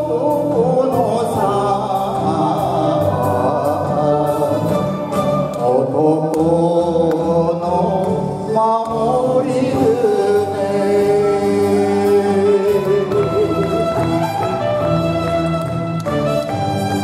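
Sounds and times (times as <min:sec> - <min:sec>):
elderly man singing: 0:00.0 - 0:14.3
backing music: 0:00.0 - 0:17.0.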